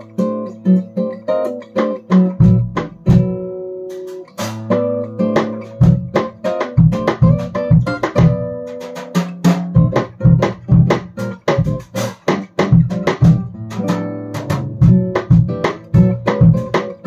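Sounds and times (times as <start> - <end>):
acoustic guitar strumming: 0.0 - 17.0
drum kit beat: 0.0 - 17.0.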